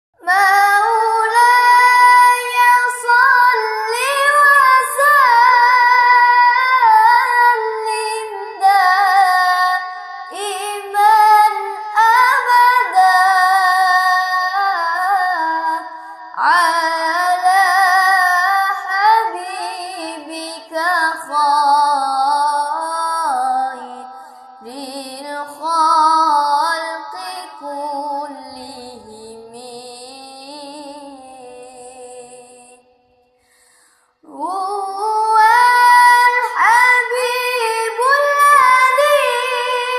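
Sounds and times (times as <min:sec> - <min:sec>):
high voice singing unaccompanied: 0:00.2 - 0:32.9, 0:34.2 - 0:39.9.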